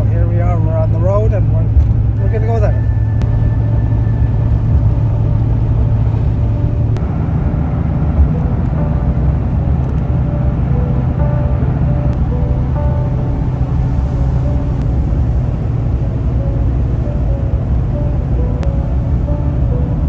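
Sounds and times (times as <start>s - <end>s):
faint music: 0.0s - 20.0s
truck engine and road rumble: 0.0s - 20.0s.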